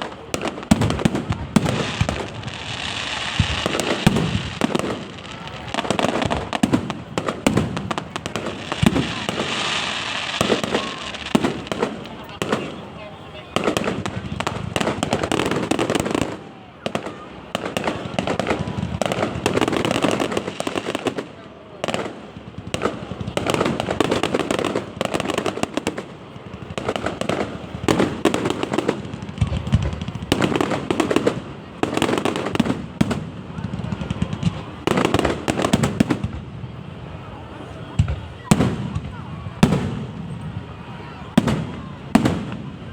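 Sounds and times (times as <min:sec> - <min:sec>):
fireworks bangs and cracks: 0:00.0 - 0:42.9
fireworks crackling hiss: 0:00.0 - 0:42.9.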